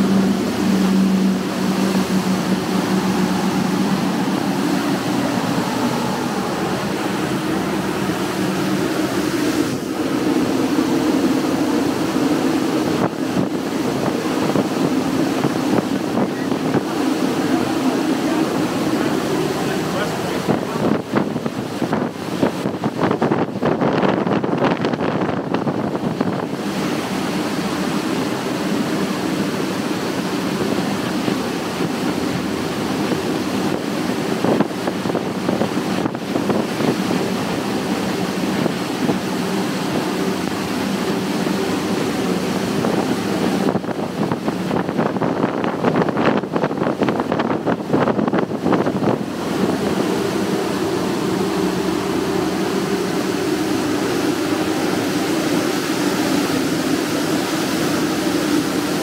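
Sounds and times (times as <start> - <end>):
outboard engines humming: 0.0 - 59.0
water rushing along hull: 0.0 - 59.0
wind on microphone: 0.0 - 59.0.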